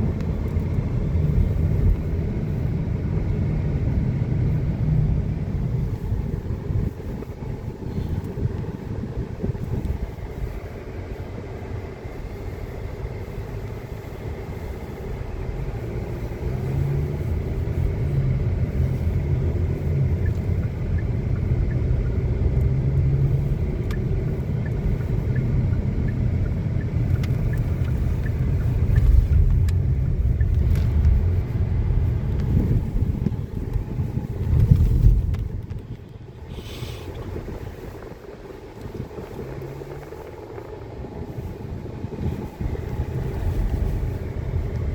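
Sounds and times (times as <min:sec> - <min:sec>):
strong wind buffeting microphone: 0:00.0 - 0:44.9.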